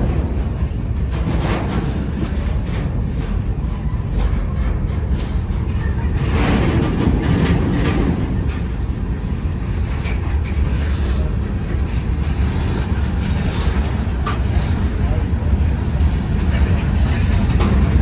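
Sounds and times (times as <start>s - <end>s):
train rumbling past: 0.0s - 18.0s
wheels clicking over rail joints: 0.0s - 18.0s.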